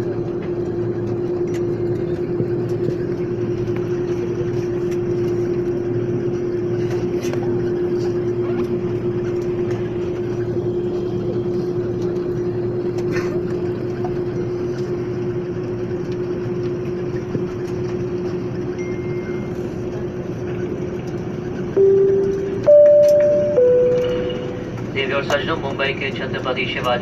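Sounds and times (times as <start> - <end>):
constant mid-pitched hum: 0.0 - 27.0
jet engines and airflow rumble: 0.0 - 27.0.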